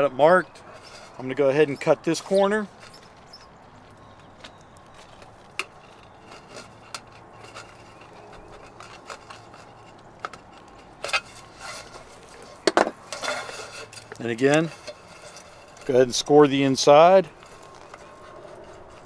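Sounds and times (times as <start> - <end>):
metal scraping: 0.0 - 19.0.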